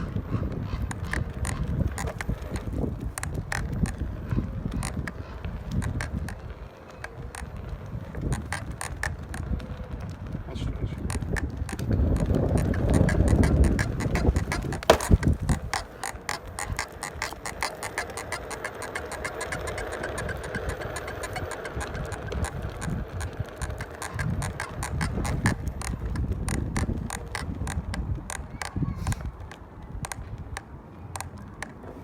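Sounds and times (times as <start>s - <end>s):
electric board fast clicking: 0.0s - 32.0s.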